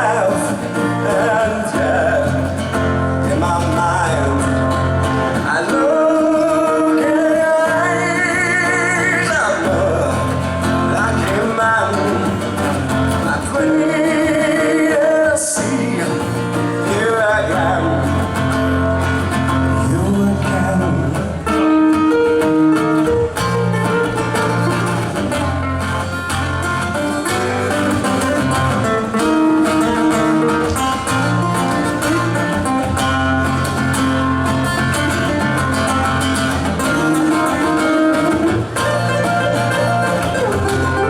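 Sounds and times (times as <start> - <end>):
acoustic guitar: 0.0 - 41.0.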